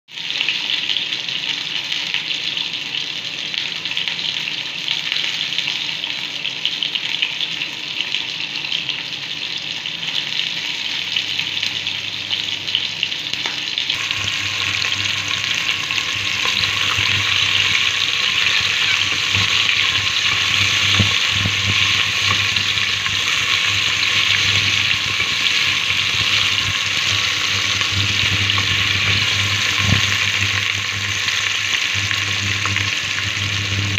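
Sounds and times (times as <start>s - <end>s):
oil sizzling in a pot: 0.1s - 33.9s.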